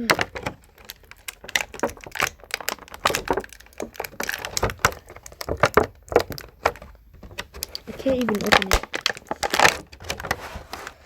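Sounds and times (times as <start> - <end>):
plastic packaging clicks and crinkles: 0.0 - 11.0.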